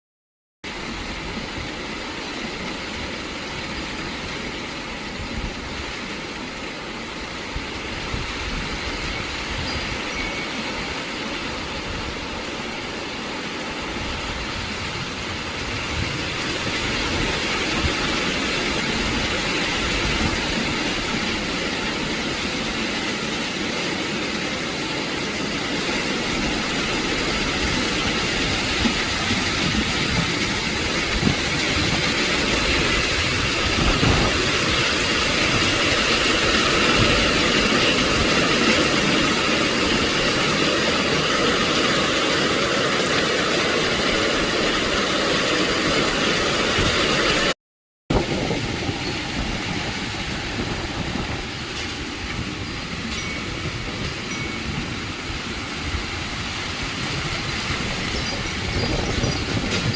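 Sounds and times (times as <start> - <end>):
rain falling steadily: 0.7 - 59.9.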